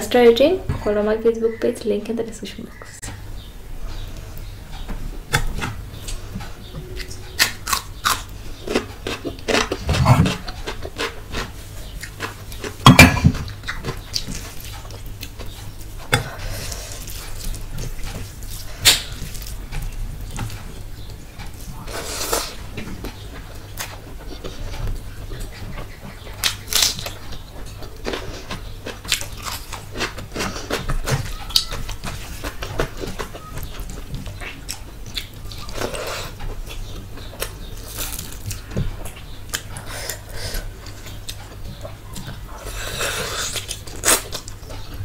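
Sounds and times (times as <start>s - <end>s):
steady low hum: 0.0s - 45.0s
person chewing: 5.3s - 45.0s.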